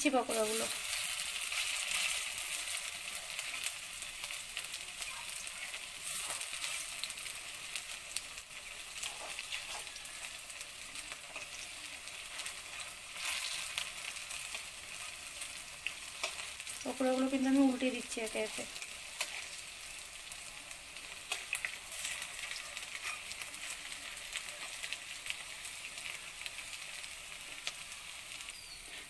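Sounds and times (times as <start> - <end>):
deep-frying sizzle with crackles: 0.0 - 29.0
steel spatula turning food: 0.1 - 29.0.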